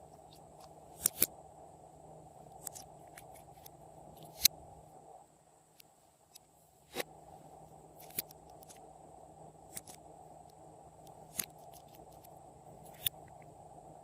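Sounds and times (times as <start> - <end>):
steady low noise: 0.0 - 14.0.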